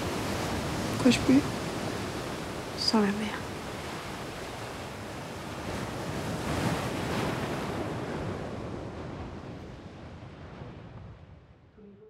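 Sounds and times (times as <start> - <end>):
sea waves washing in: 0.0 - 11.6.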